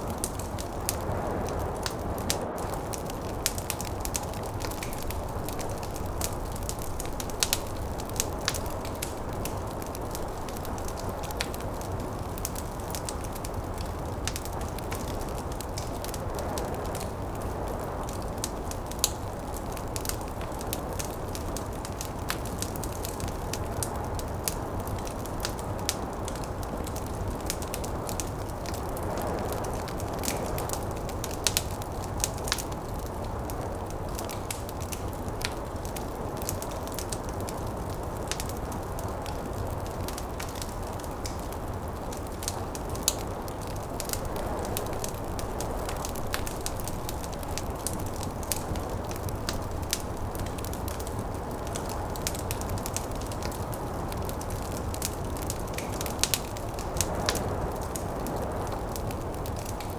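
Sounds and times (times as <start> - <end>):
snowstorm wind rumble: 0.0 - 59.9
wood fire crackling and popping: 0.0 - 59.9.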